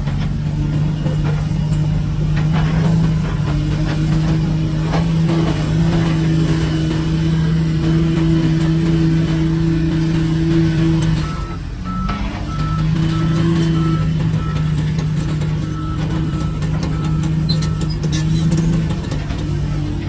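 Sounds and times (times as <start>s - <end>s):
diesel engine running: 0.0s - 20.0s
knocks and clatter: 0.0s - 20.0s.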